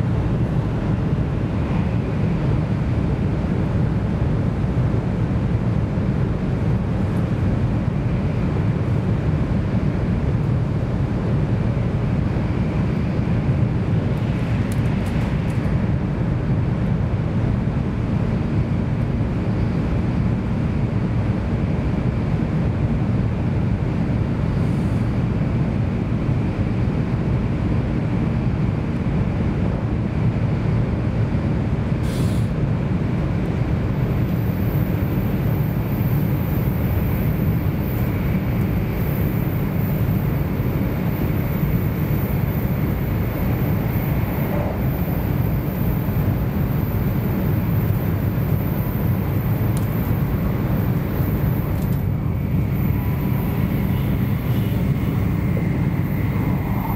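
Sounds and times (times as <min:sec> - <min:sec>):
train interior low rumble: 0:00.0 - 0:56.9.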